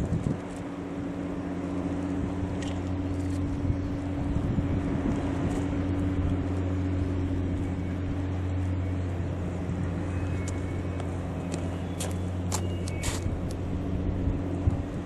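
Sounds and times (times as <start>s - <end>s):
engine idling hum: 0.0s - 15.0s.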